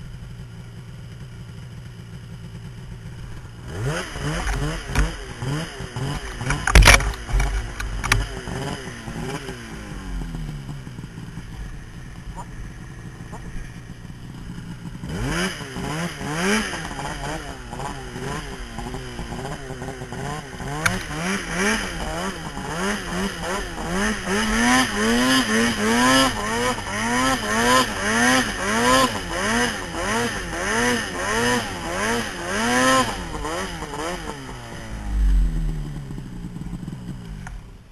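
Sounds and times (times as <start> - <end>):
snowmobile engine revving: 3.2 - 37.7.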